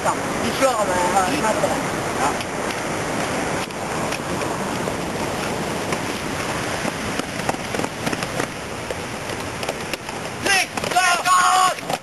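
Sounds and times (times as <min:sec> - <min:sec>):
wind on microphone: 0:00.0 - 0:11.0
footsteps on asphalt: 0:02.3 - 0:12.0.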